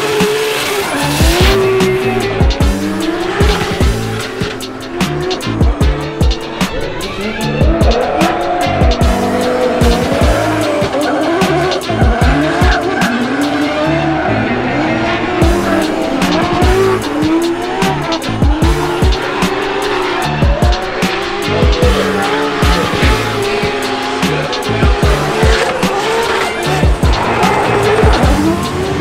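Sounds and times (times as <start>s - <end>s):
music with a beat: 0.0s - 14.2s, 15.0s - 29.0s
car engine revving: 0.0s - 29.0s.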